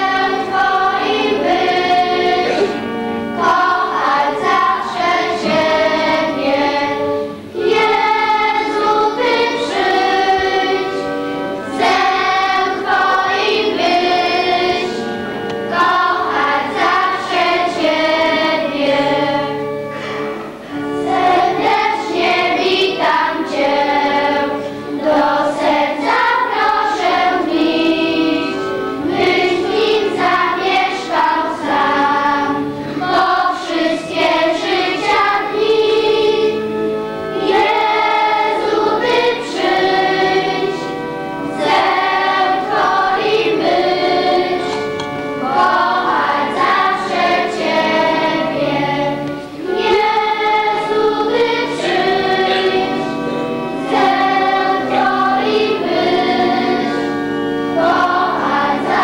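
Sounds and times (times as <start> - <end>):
children singing a hymn: 0.0 - 59.0.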